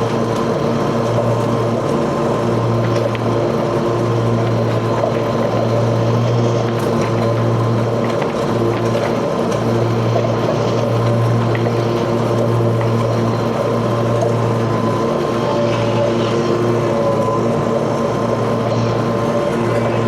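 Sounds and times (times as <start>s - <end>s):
riding mower engine running: 0.0s - 20.0s.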